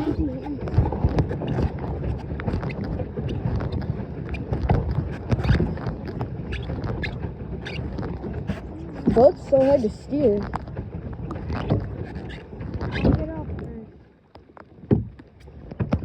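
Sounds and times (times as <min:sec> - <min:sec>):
light knocks against hull: 0:00.0 - 0:09.6, 0:10.3 - 0:16.0
low wind rumble: 0:00.0 - 0:14.3
water splashes: 0:00.0 - 0:16.0.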